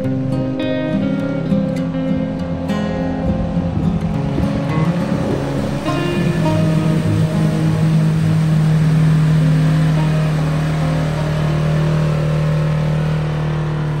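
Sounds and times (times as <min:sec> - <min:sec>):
utility vehicle engine droning: 0:00.0 - 0:14.0.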